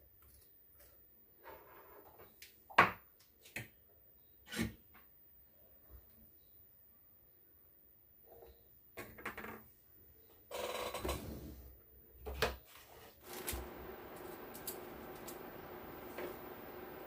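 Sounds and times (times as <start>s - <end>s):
faint hum with hiss: 0.0s - 17.0s.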